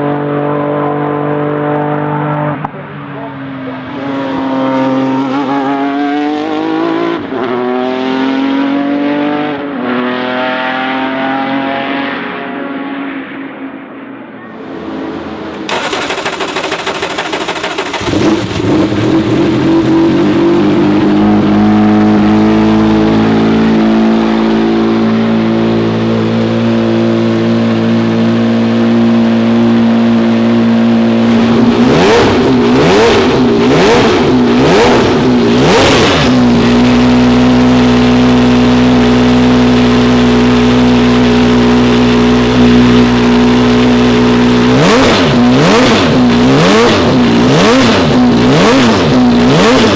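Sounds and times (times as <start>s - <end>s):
racing engine idling and revving: 0.0s - 49.9s.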